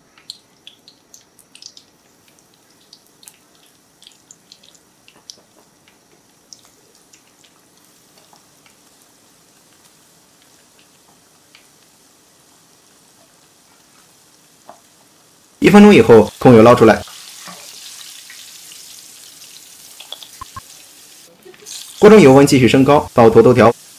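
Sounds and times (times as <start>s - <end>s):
crackling pops of frying: 0.0s - 23.9s.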